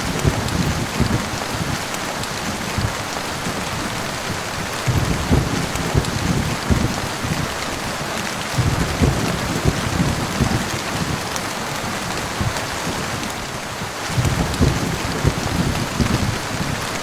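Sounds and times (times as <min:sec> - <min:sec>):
heavy rain falling: 0:00.0 - 0:17.0
low rumbles and thuds: 0:00.0 - 0:17.0.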